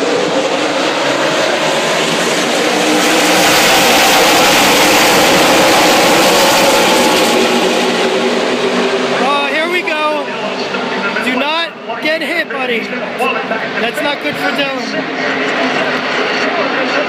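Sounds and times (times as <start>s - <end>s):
race truck engines at full throttle: 0.0s - 17.0s.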